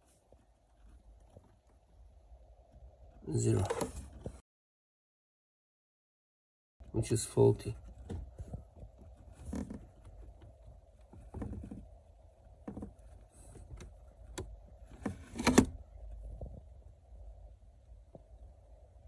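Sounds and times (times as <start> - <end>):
faint low hum: 0.0 - 4.4, 6.8 - 19.0.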